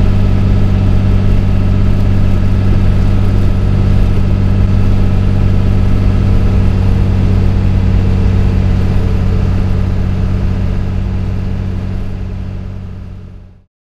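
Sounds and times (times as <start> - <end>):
diesel engine running: 0.0 - 13.7.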